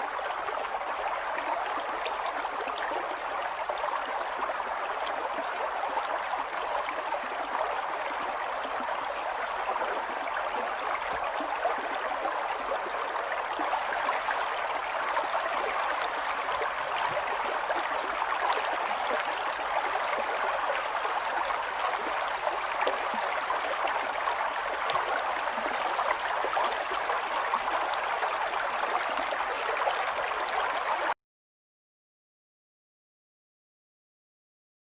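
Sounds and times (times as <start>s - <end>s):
water flowing steadily: 0.0s - 31.2s.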